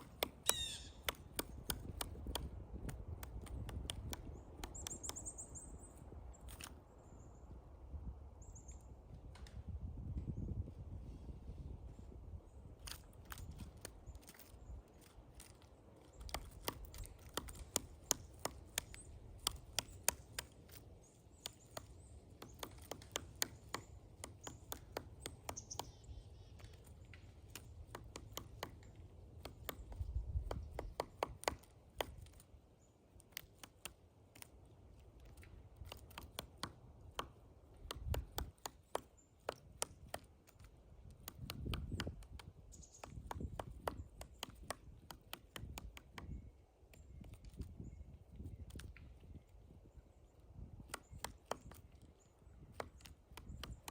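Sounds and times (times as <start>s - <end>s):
woodpecker knocking on wood: 0.0s - 5.5s, 12.8s - 32.4s, 33.2s - 34.5s, 35.2s - 49.3s, 50.7s - 53.9s.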